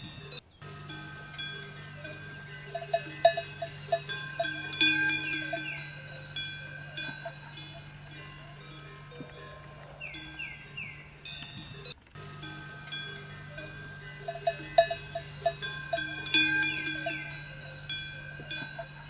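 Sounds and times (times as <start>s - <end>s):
bells clanking: 0.0s - 19.0s
steady low hum: 0.0s - 19.0s.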